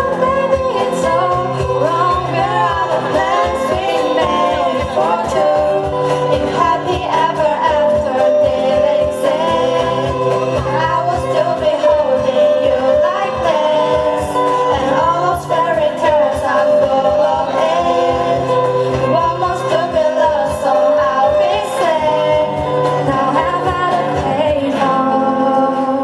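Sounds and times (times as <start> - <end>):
steady rhythmic beat: 0.0 - 24.8
group singing pop song: 0.0 - 26.0
guitar accompaniment: 0.0 - 26.0.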